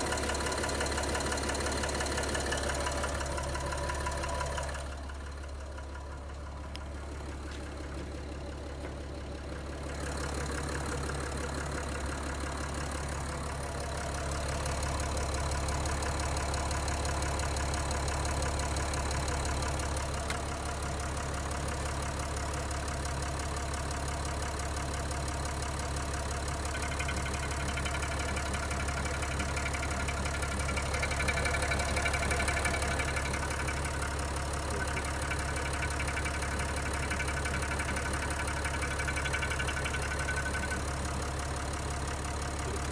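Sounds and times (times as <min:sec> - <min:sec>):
diesel engine idling with knock: 0:00.0 - 0:42.9.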